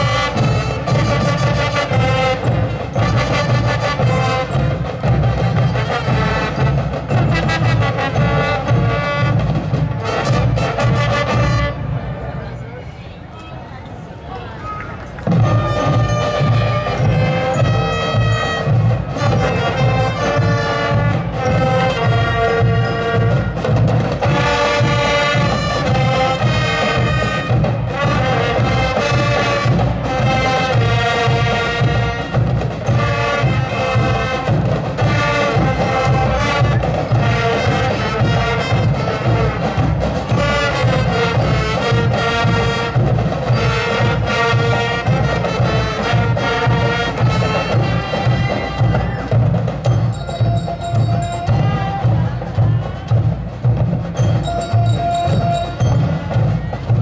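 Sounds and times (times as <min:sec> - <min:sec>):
brass melody: 0:00.0 - 0:12.4, 0:15.3 - 0:57.0
drums beating: 0:00.0 - 0:12.6, 0:15.0 - 0:57.0
marching band playing: 0:00.0 - 0:57.0.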